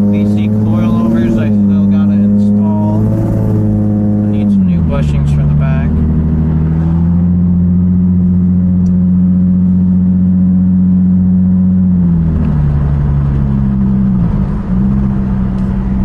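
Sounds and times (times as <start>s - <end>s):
car engine exhaust drone: 0.0s - 16.0s.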